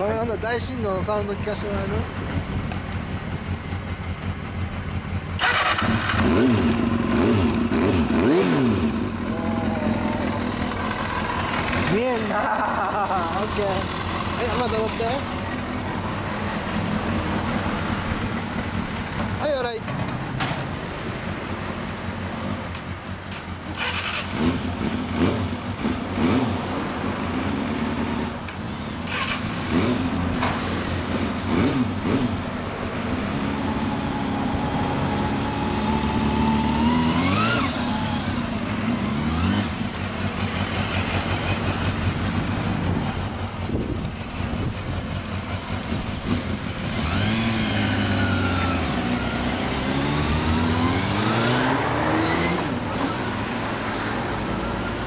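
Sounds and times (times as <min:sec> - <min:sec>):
motorcycles pulling away: 0:00.0 - 0:15.8, 0:23.3 - 0:55.0
motorcycle engines idling and revving: 0:00.0 - 0:55.0.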